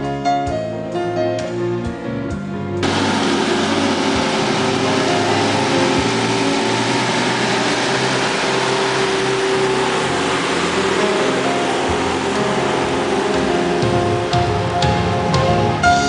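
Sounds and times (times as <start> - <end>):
road train engine passing: 2.8 - 16.0.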